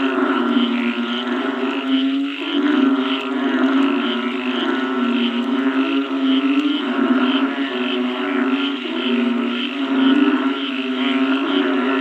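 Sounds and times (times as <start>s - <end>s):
frog chorus droning: 0.0s - 12.0s
high-pitched pulsing frog calls: 0.0s - 12.0s.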